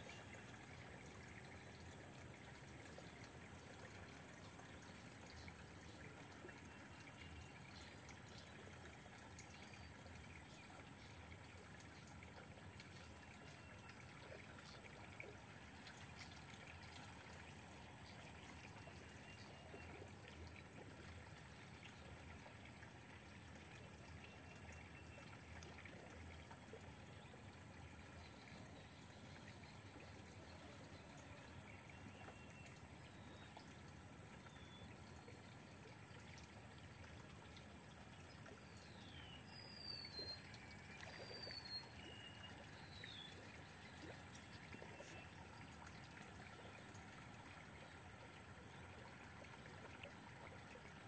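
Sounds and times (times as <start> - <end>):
faint outdoor background noise: 0.0 - 51.0.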